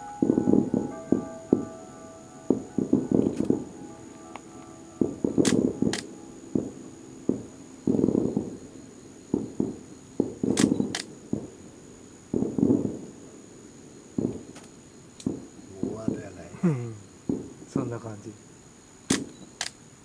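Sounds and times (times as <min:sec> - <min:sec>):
sharp firework cracks: 0:00.0 - 0:13.2, 0:14.1 - 0:16.3, 0:17.2 - 0:17.6, 0:19.1 - 0:19.8
firework booms: 0:00.0 - 0:16.5, 0:17.2 - 0:18.0.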